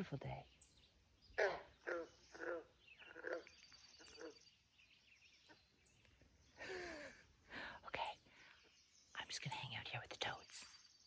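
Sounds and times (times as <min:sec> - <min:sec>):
quiet outdoor ambience: 0:00.0 - 0:11.0.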